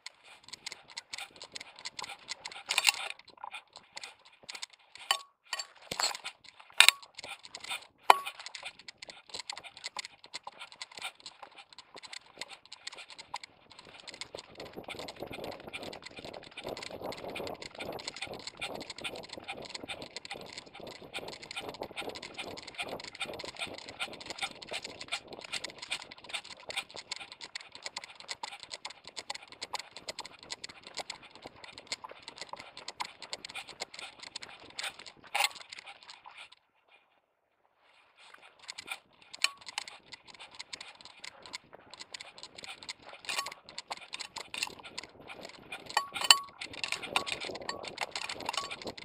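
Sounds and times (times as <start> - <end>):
camera handling clatter: 0.0 - 36.6, 38.2 - 49.0.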